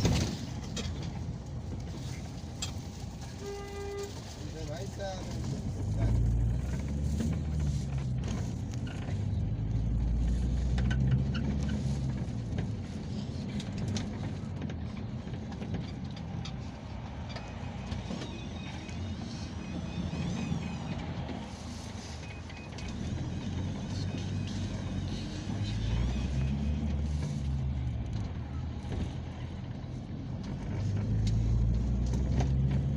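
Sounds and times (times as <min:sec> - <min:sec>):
minibus engine: 0:00.0 - 0:32.9
road rumble: 0:00.0 - 0:32.9.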